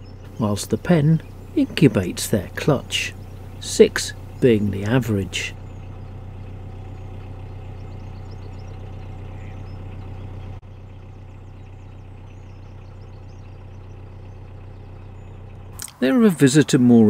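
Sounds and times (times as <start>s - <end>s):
birds chirping faintly: 0.0s - 17.0s
boat diesel engine hum: 0.0s - 17.0s.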